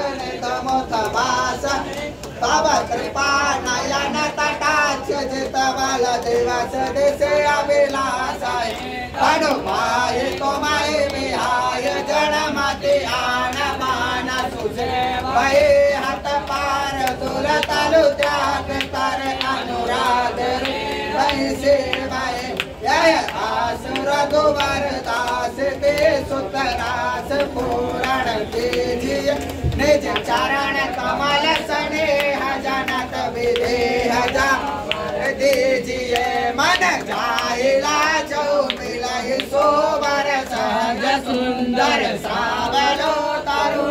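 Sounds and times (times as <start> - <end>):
group singing devotional song: 0.0 - 43.9.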